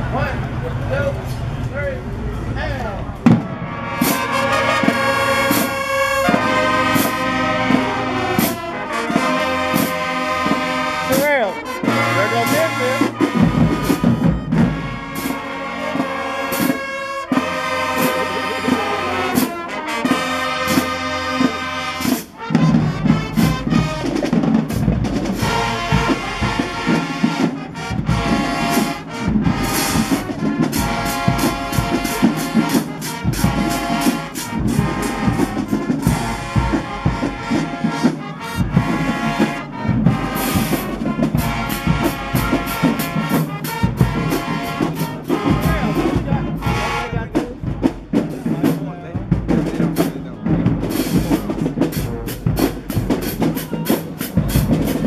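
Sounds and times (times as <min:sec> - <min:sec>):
brass band playing held chords: 0:00.0 - 0:55.0
drums and crash cymbals beat: 0:03.2 - 0:55.0.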